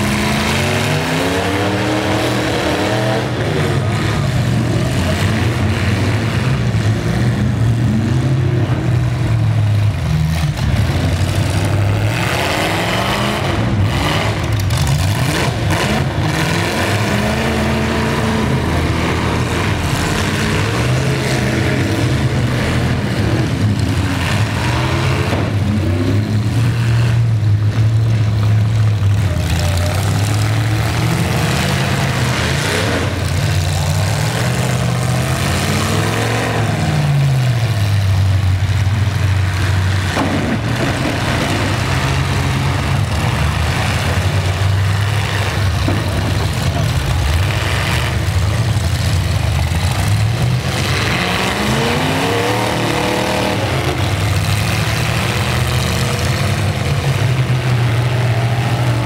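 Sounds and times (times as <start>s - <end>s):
pickup truck engines revving: 0.0s - 59.0s.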